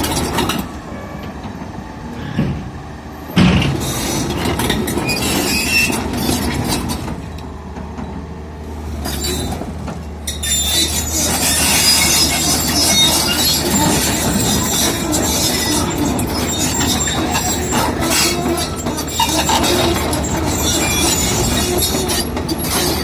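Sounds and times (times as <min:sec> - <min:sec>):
steel tracks squealing and clanking: 0:00.0 - 0:07.4, 0:08.8 - 0:23.0.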